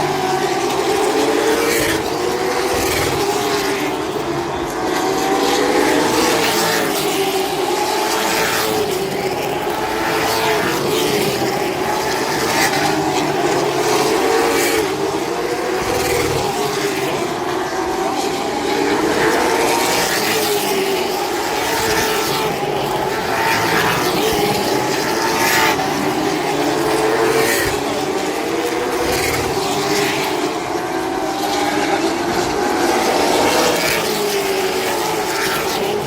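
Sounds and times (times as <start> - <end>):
race car engines running: 0.0 - 36.0.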